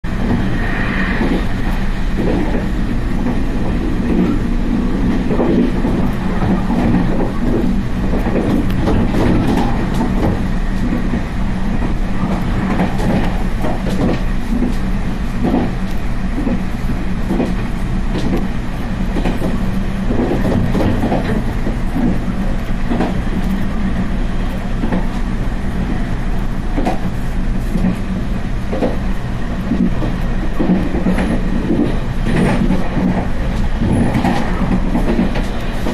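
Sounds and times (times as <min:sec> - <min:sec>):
train rumbling: 0:00.0 - 0:35.9
wheels clacking over rail joints: 0:01.2 - 0:35.9.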